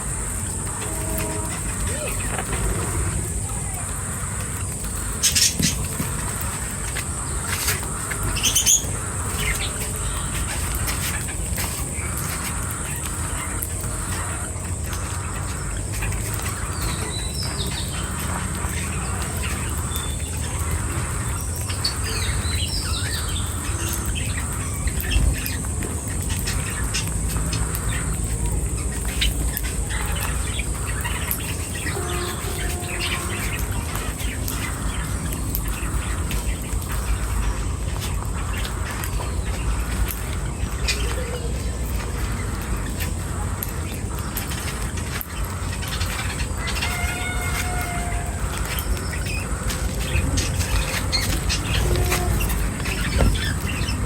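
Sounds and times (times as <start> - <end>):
birds chirping: 0.0 - 54.0
squawky bird calls: 0.0 - 54.0.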